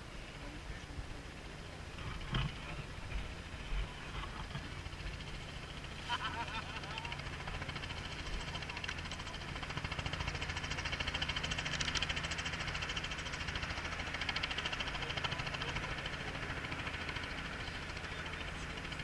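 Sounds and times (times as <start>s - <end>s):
helicopter rotor beating: 0.0s - 19.0s.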